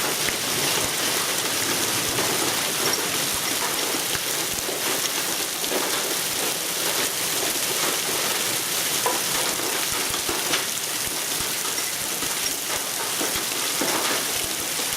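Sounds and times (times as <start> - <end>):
hailstones ticking: 0.0 - 14.9
heavy rain and hail: 0.0 - 14.9.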